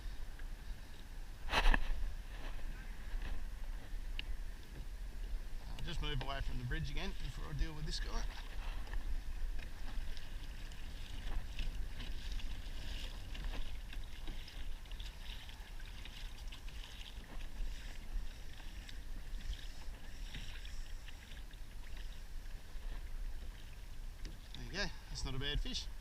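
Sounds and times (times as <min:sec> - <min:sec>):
water lapping against kayak hull: 0:00.0 - 0:26.0
wind rumble on microphone: 0:00.0 - 0:26.0.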